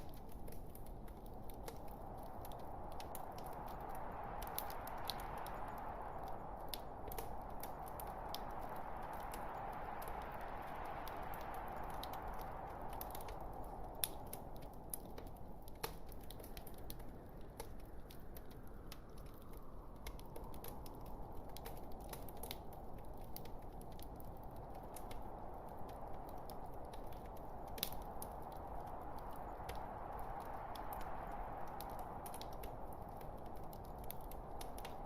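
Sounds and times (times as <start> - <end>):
log fire burning: 0.0 - 35.0.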